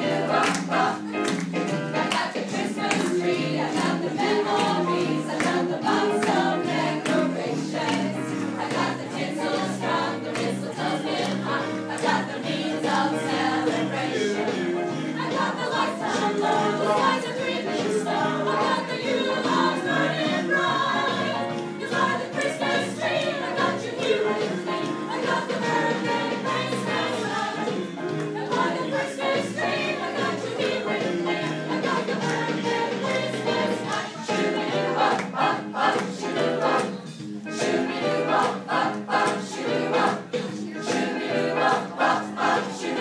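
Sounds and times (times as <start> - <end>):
choir singing with accompaniment: 0.0 - 43.0.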